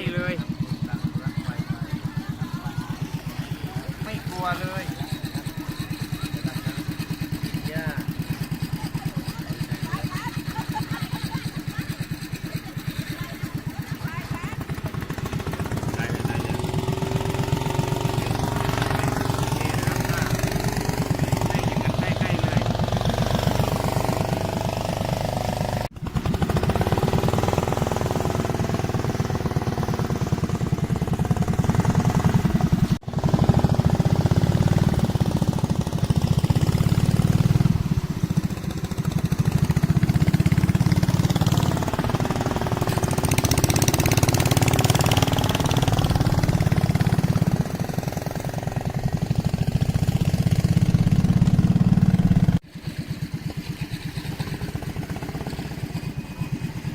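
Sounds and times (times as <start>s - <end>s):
boat engine chugging: 0.0s - 56.9s.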